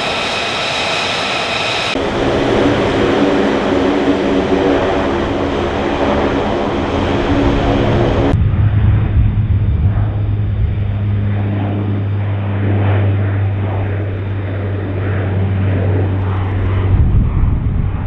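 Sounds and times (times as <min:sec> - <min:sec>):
rush of engine and air noise: 0:00.0 - 0:18.0
turboprop propeller drone: 0:00.0 - 0:18.0.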